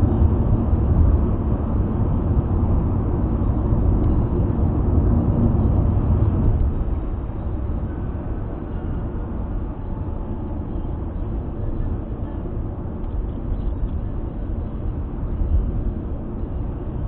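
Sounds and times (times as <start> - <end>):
car road noise rumble: 0.0 - 17.0.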